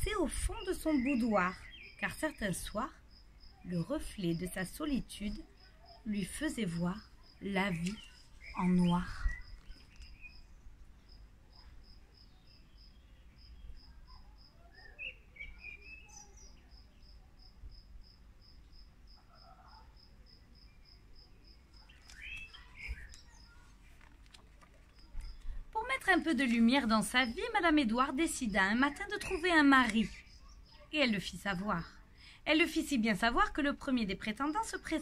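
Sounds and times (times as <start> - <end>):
faint bird chirps: 0.0 - 32.4
cricket chirping: 0.1 - 30.9.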